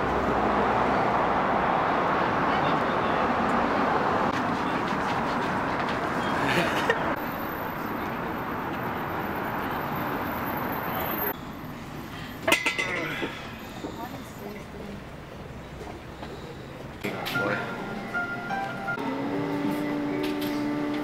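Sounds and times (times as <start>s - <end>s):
traffic noise: 0.0s - 21.0s.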